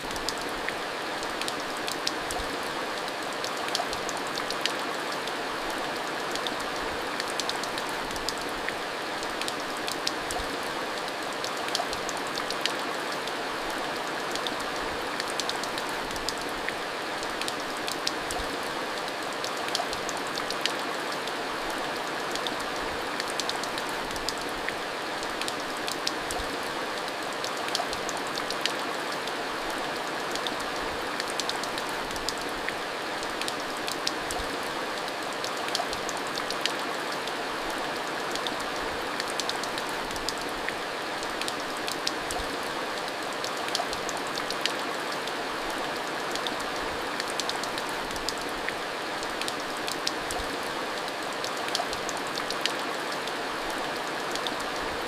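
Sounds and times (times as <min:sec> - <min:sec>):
raindrops ticking on a surface: 0:00.0 - 0:55.0.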